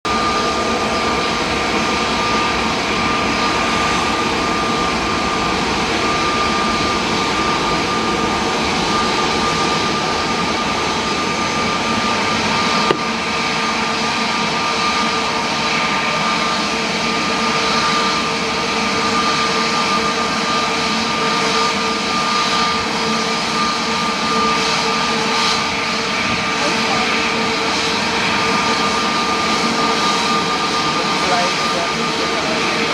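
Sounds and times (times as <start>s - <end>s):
high engine whine: 0.1s - 32.9s
jet engines rushing: 0.1s - 32.9s.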